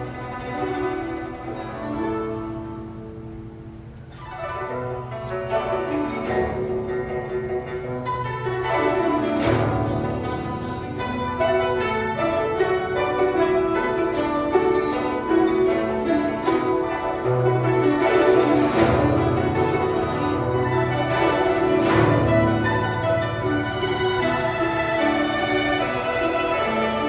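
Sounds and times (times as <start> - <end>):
zither ensemble plucking melody: 0.0 - 27.0.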